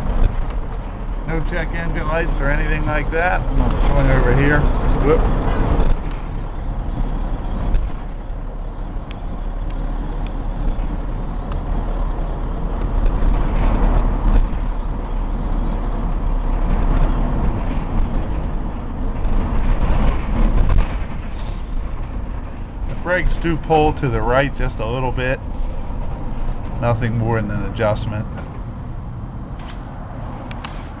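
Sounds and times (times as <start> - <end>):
short knocks and rattles: 0.0 - 26.8
road and tyre rumble: 0.0 - 31.0
truck engine running: 0.0 - 31.0.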